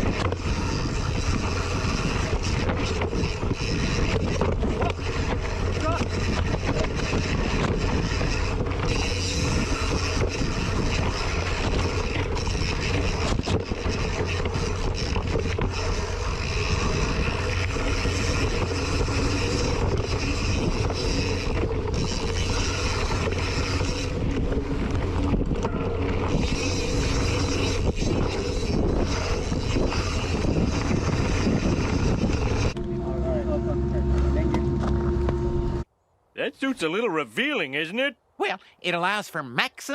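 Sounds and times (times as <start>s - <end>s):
bike rattling: 0.0s - 33.2s
wind noise on microphone: 0.0s - 35.8s.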